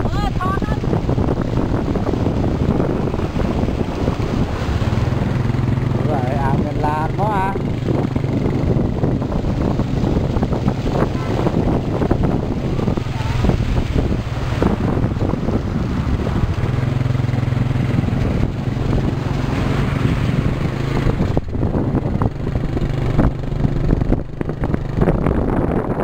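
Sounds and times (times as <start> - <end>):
wind buffeting microphone: 0.0 - 26.0
small motorcycle engine running: 0.6 - 26.0.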